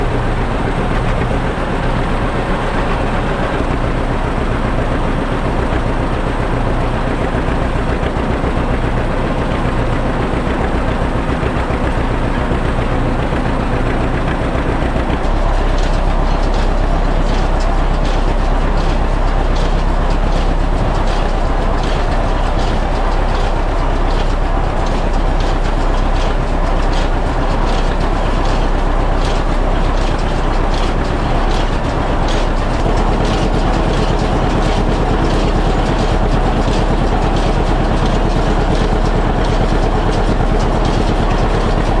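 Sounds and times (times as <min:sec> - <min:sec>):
baler mechanical clacking: 0:00.0 - 0:42.0
tractor engine drone: 0:00.0 - 0:42.0.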